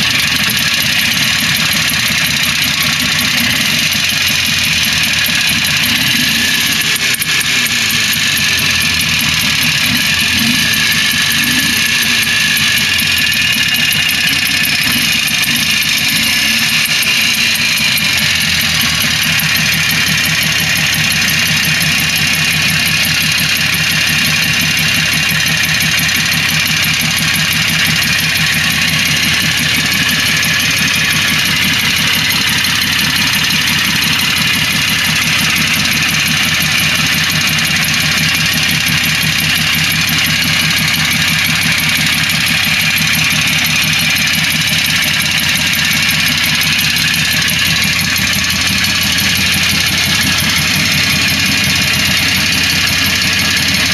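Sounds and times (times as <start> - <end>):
two-stroke engine idling: 0.0 - 53.9.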